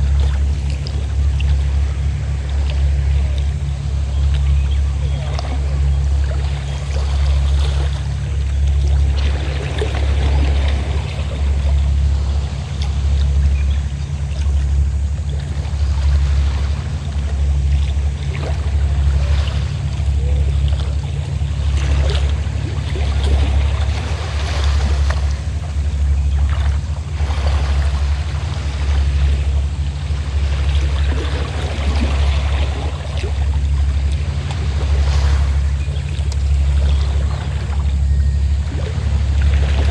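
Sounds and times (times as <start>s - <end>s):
boat engine droning: 0.0s - 39.9s
sea water splashing: 0.0s - 39.9s.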